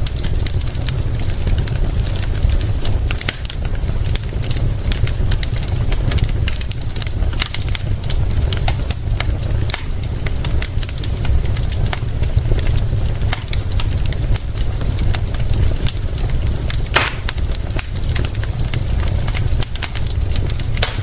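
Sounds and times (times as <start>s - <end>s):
steady low rumble: 0.0s - 21.0s
wood fire crackling: 0.0s - 21.0s.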